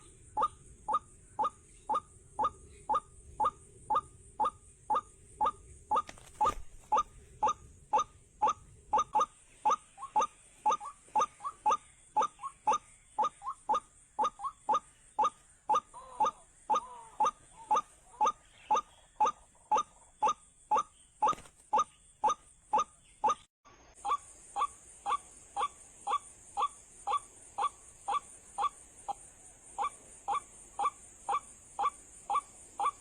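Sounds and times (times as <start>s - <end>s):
waterhen calls: 0.0s - 23.4s, 24.0s - 29.2s, 29.8s - 33.0s.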